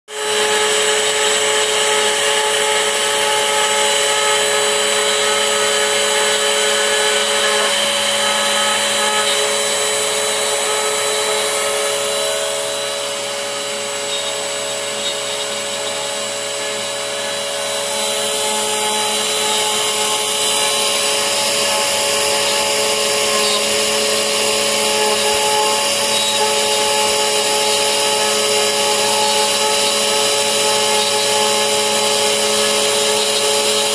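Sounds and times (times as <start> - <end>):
router spindle whine: 0.1 - 33.9.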